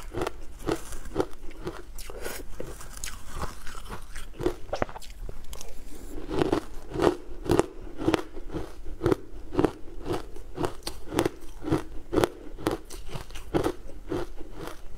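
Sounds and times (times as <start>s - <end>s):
person chewing crunchy food: 0.0s - 14.9s.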